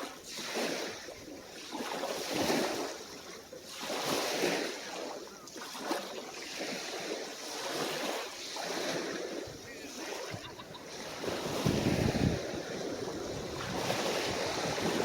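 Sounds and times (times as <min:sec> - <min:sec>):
small waves washing on beach: 0:00.0 - 0:15.0.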